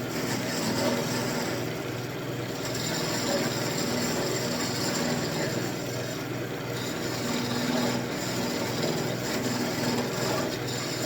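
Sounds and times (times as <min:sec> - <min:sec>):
turning tool cutting wood: 0:00.0 - 0:11.0
wood lathe running: 0:00.0 - 0:11.0.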